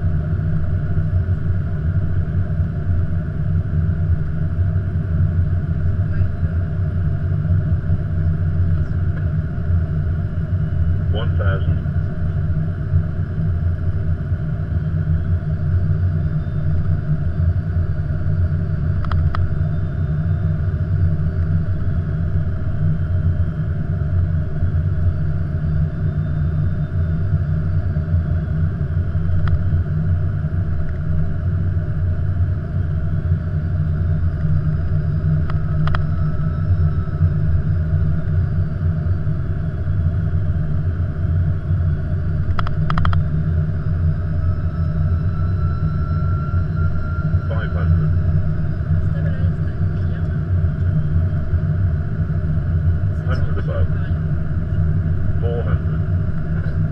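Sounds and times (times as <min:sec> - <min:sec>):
cockpit airflow and engine rumble: 0:00.0 - 0:56.9.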